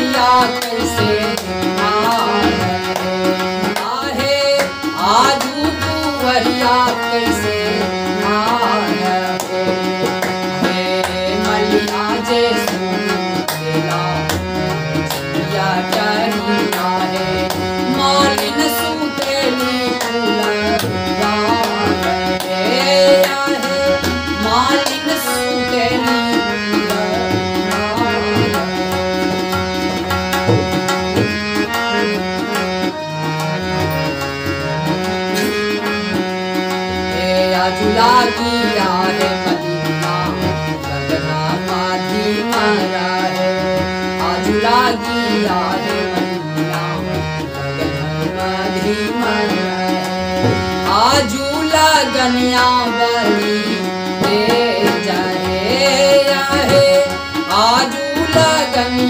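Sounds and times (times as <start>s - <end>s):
harmonium melody: 0.0s - 59.0s
tabla rhythm: 0.0s - 59.0s.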